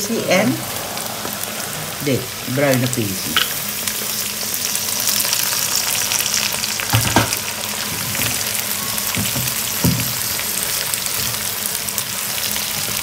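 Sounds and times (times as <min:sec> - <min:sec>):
beans sizzling in oil: 0:00.0 - 0:13.0.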